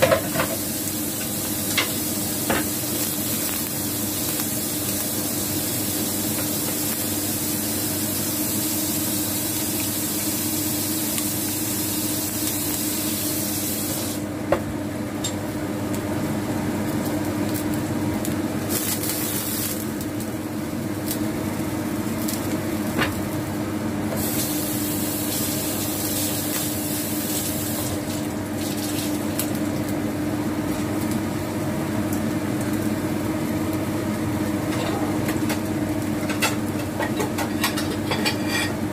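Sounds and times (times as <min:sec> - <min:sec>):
greens sizzling in a pan: 0:00.0 - 0:14.4, 0:15.5 - 0:38.9.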